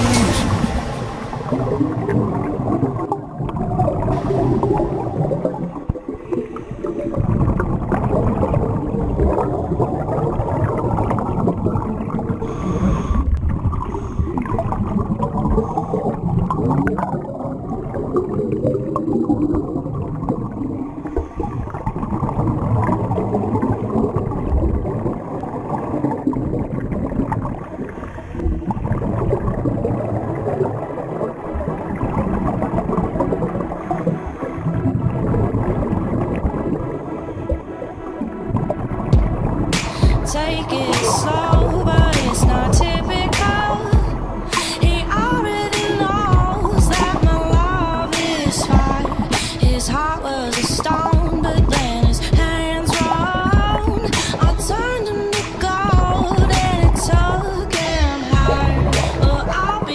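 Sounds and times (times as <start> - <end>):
muffled underwater water movement: 0.0 - 59.9
scuba bubbles gurgling: 0.0 - 59.9.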